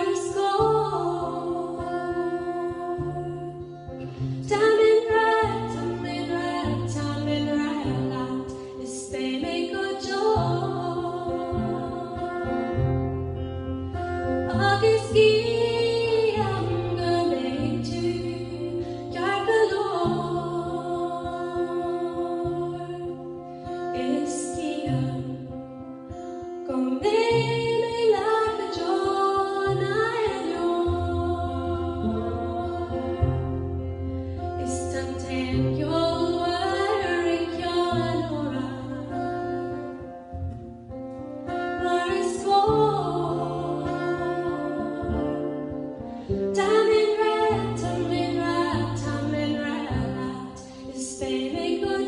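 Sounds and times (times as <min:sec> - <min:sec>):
woman singing a slow ballad: 0:00.0 - 0:40.2, 0:41.4 - 0:52.0.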